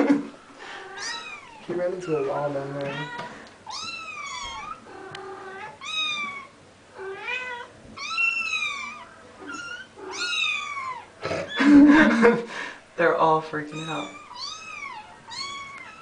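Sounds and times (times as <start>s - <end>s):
cat meowing: 0.8s - 11.6s, 13.7s - 16.0s.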